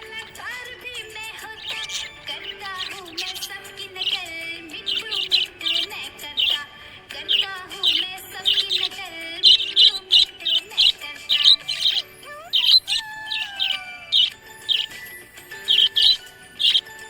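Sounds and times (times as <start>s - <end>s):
budgerigar chirping: 0.0s - 17.0s.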